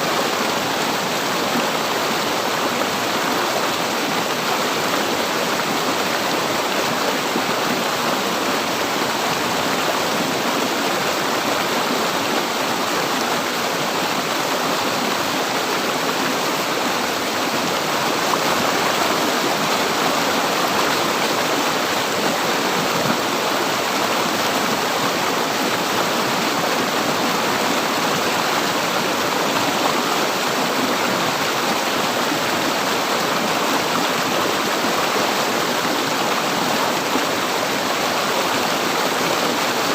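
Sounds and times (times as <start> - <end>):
river water rushing and gurgling: 0.0 - 39.9.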